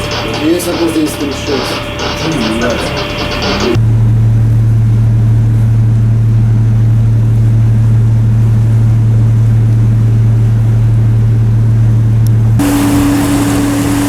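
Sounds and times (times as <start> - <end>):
deep drone of a warship: 0.0 - 14.0.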